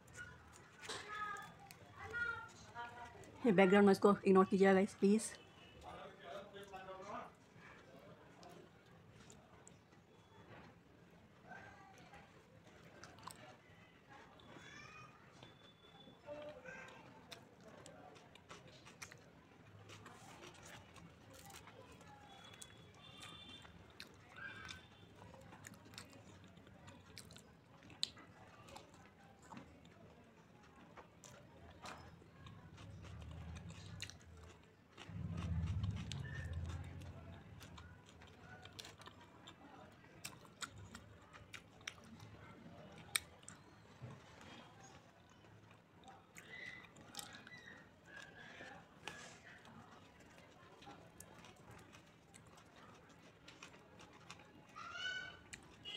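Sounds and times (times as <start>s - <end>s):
faint chewing: 0.0s - 3.8s, 5.0s - 55.9s.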